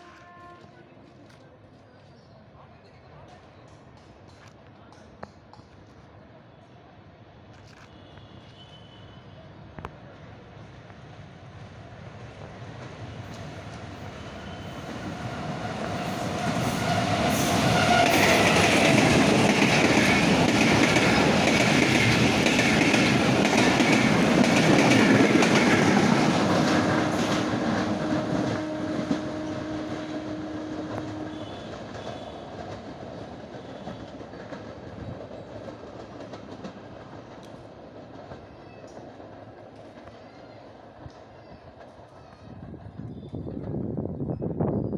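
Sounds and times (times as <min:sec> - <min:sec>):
diesel train passing: 0:08.4 - 0:44.9.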